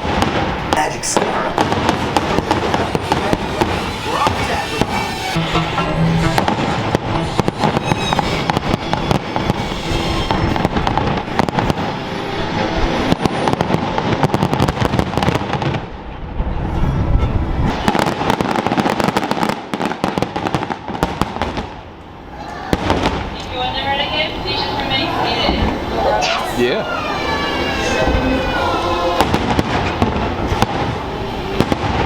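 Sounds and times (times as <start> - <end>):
fireworks bangs and crackles: 0.0 - 5.4, 6.3 - 16.7, 17.5 - 24.6, 25.4 - 25.9, 29.2 - 32.0.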